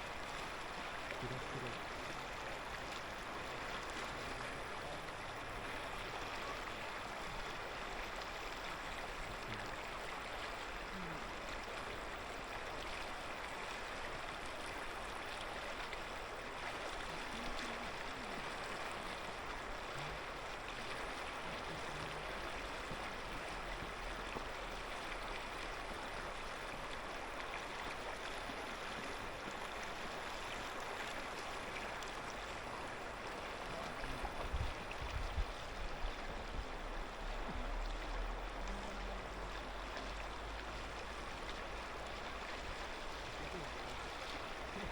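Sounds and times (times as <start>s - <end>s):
river flowing over stones: 0.0s - 44.9s.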